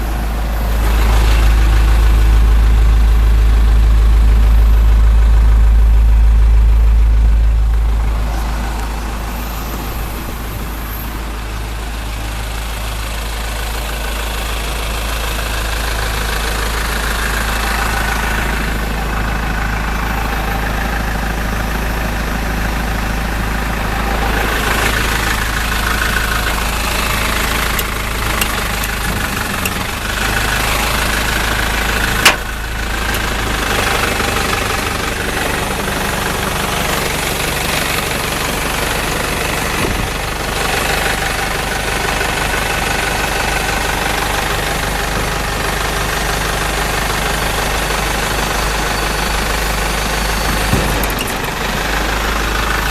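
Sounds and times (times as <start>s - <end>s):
truck engine idling: 0.0s - 52.9s.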